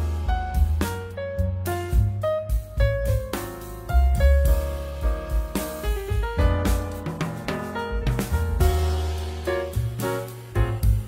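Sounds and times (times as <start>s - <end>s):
keyboard melody over heavy bass: 0.0s - 11.0s.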